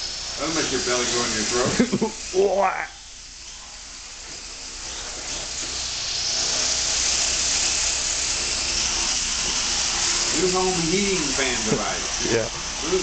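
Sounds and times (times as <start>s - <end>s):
electric helicopter rotor whir: 0.0s - 13.0s.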